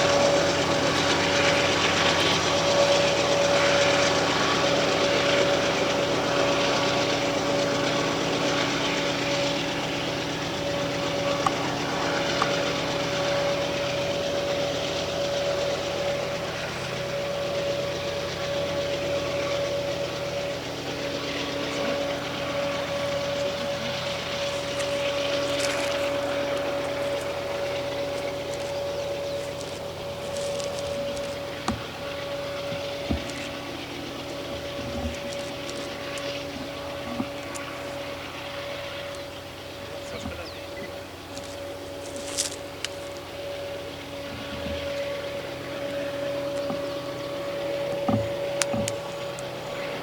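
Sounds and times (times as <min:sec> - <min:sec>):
diesel locomotive engine drone: 0:00.0 - 0:50.0
high engine whine: 0:00.0 - 0:50.0.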